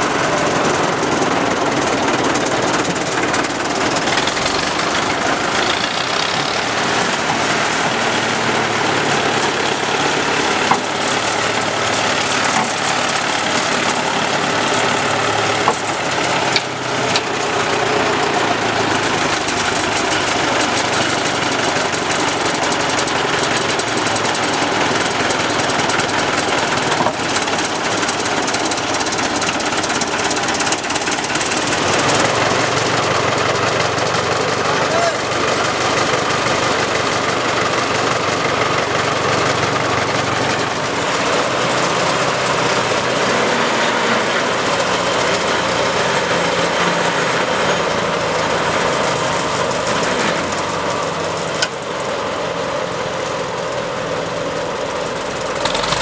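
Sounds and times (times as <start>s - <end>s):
road roller engine running: 0.0s - 56.0s.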